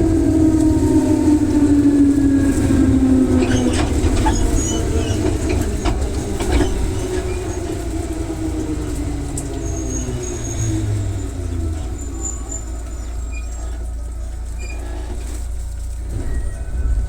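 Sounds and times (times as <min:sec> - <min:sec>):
train motor whine: 0:00.0 - 0:17.0
train running rumble: 0:00.0 - 0:17.0
wheels clicking over rail joints: 0:00.0 - 0:17.0.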